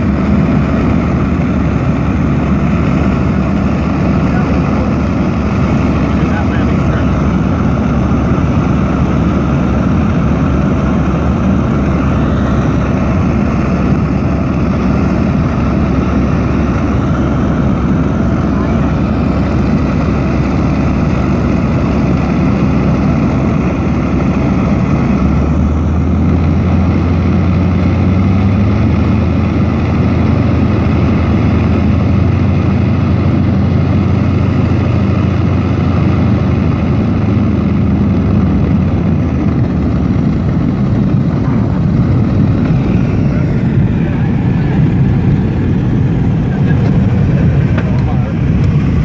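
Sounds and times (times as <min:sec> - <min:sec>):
airplane engine and propeller: 0:00.0 - 0:49.0
deeper steady drone: 0:00.0 - 0:49.0.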